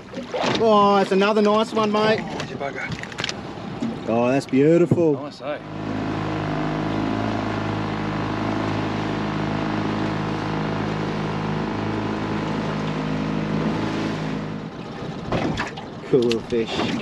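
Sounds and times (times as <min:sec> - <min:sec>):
outboard motor running: 0:00.0 - 0:17.0
water rushing: 0:00.0 - 0:17.0
wind: 0:00.0 - 0:17.0.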